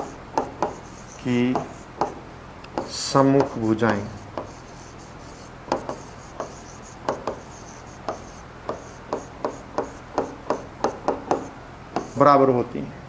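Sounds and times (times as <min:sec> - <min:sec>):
stylus tapping on glass: 0:00.0 - 0:00.8, 0:01.5 - 0:04.6, 0:05.3 - 0:12.2.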